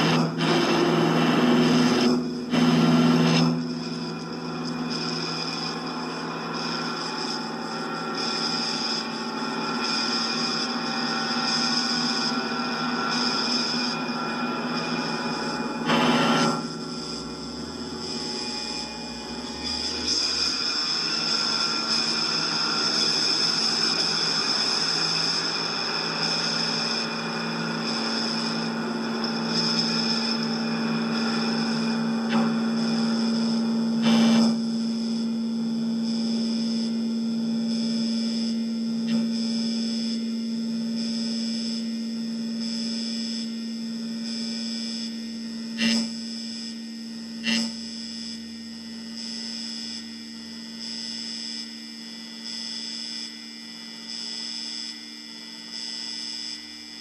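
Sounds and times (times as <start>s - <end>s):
droning hum: 0.0s - 57.0s
thin high whine: 0.0s - 57.0s.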